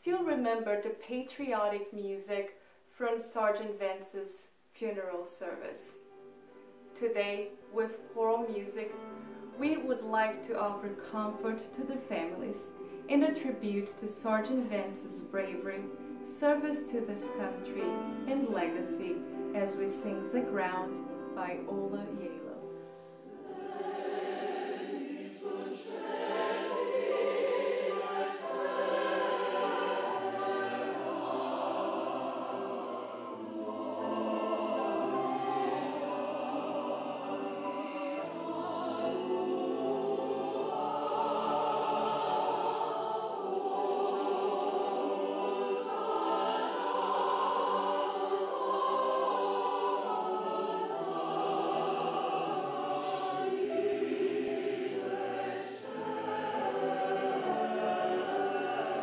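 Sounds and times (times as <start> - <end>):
mixed choir singing: 5.0 - 59.0.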